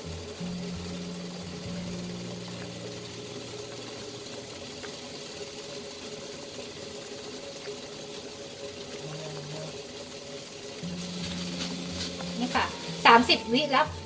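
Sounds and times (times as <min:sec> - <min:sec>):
water boiling and bubbling: 0:00.0 - 0:14.0.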